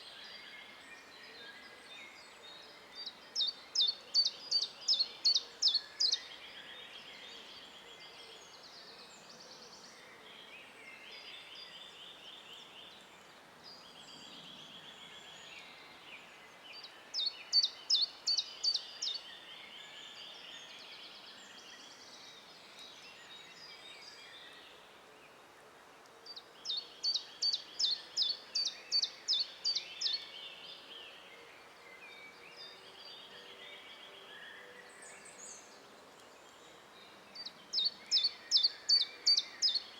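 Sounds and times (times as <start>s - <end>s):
loud high bird song: 0.0s - 25.4s, 26.2s - 39.9s.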